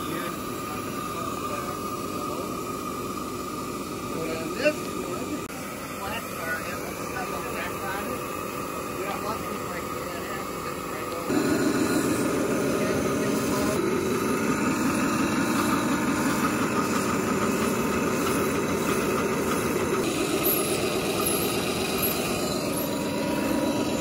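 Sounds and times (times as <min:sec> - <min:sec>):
model steam locomotive running: 0:00.0 - 0:24.0.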